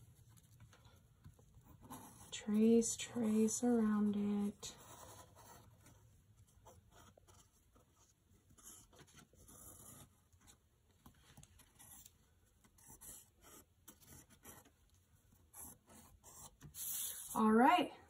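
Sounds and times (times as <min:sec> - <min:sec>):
pencil scratching on paper: 0:00.0 - 0:10.6, 0:11.5 - 0:17.5.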